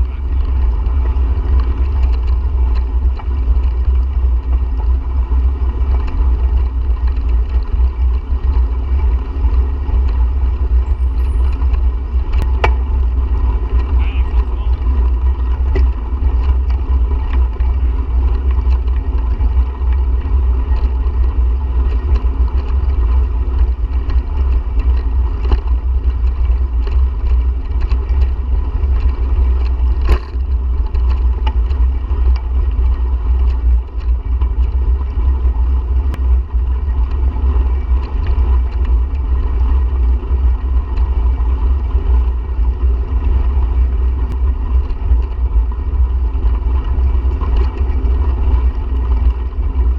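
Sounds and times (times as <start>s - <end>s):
faint clicks and rattles: 0.0s - 49.9s.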